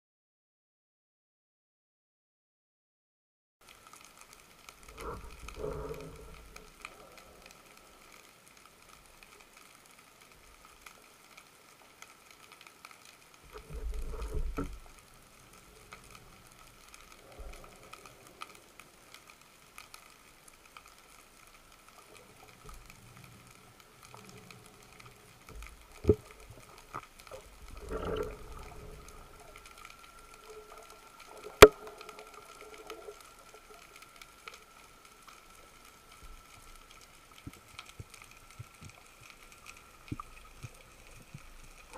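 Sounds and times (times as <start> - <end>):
water swishing: 3.6 - 41.9
faint steady whine: 3.7 - 41.9.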